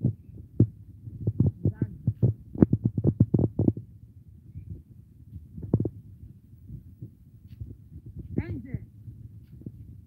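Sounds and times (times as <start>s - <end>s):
dull low thumps: 0.0s - 10.0s.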